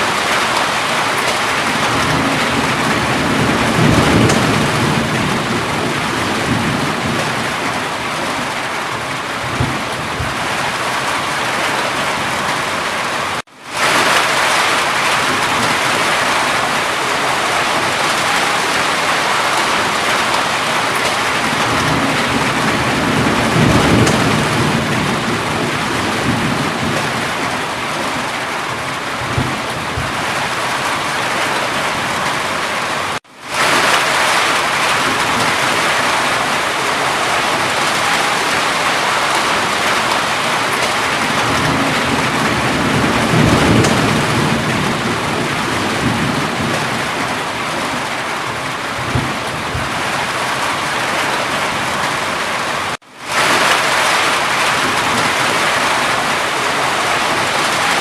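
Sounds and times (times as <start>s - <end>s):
heavy rain falling: 0.0s - 58.0s
thunder rumbling: 0.0s - 58.0s.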